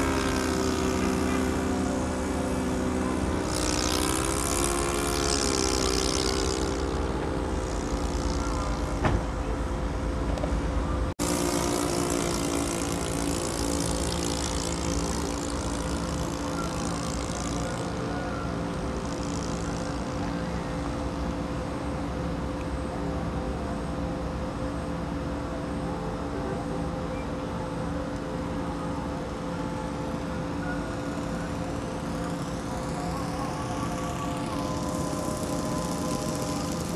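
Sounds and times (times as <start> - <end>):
model plane engine droning: 0.0 - 36.9.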